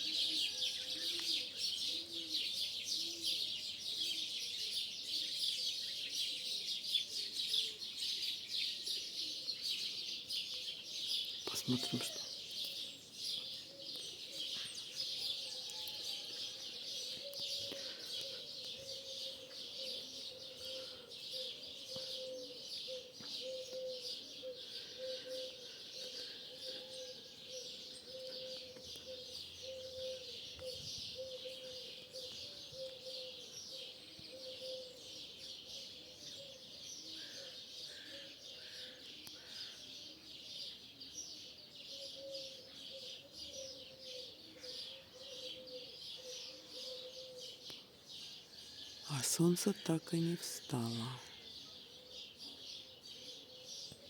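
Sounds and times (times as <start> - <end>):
starlings chattering and chirping: 0.0 - 54.0.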